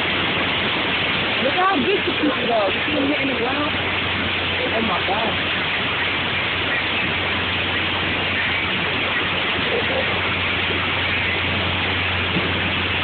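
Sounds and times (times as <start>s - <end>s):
heavy rain and hail: 0.0s - 13.0s
low steady hum: 0.0s - 13.0s.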